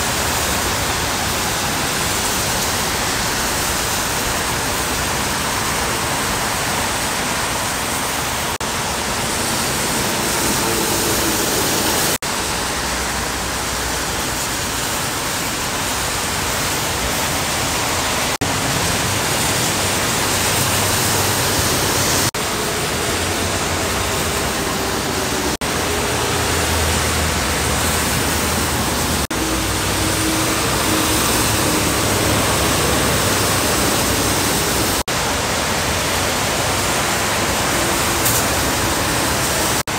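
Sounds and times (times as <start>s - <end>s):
trucks passing drone: 0.0s - 14.9s, 16.0s - 39.9s
heavy rain: 0.0s - 39.9s
tyre spray on wet pavement: 0.0s - 39.9s.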